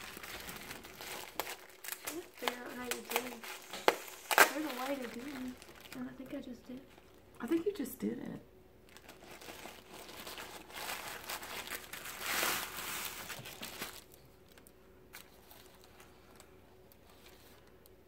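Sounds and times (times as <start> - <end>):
plastic wrapping crinkling: 0.0 - 7.7, 8.8 - 18.0.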